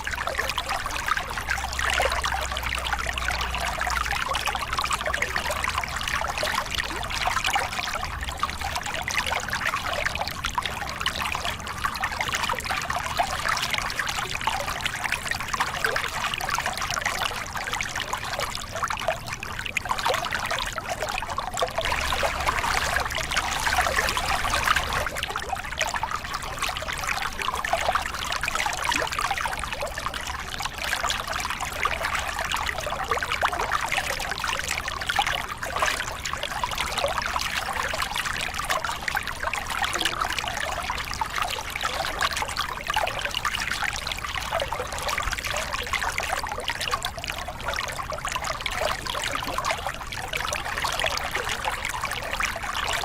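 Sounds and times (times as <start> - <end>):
water splashing over rocks: 0.0 - 53.0.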